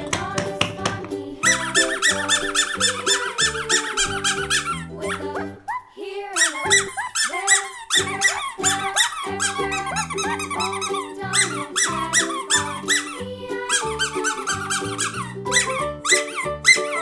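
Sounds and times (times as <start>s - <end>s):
bouncy music with squeaky notes: 0.0s - 17.0s.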